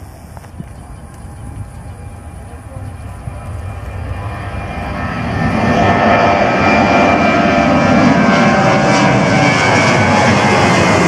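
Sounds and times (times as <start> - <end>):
jet engines passing overhead: 0.0 - 11.0.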